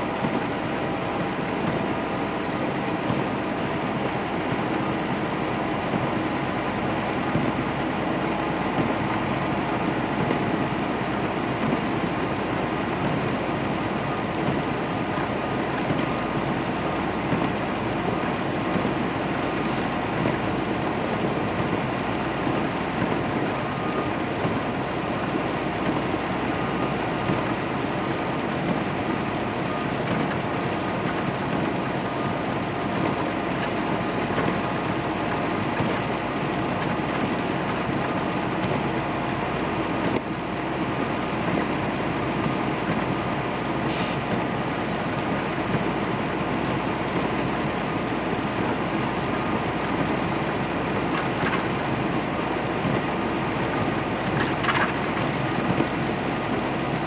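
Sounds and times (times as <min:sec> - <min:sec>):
truck engine drone: 0:00.0 - 0:57.0
tyres hissing on wet road: 0:00.0 - 0:57.0.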